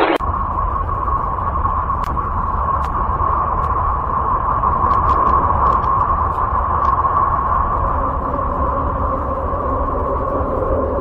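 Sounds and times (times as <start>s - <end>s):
eerie hissing drone: 0.0s - 11.0s
low rumble: 0.0s - 11.0s.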